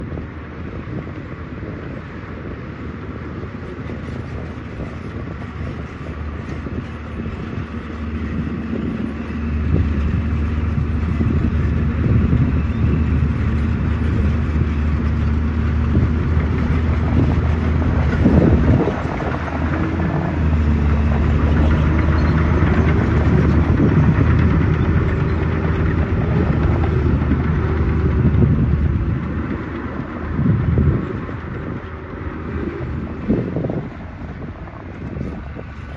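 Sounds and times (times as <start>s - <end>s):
construction machine diesel engine: 0.0s - 35.9s.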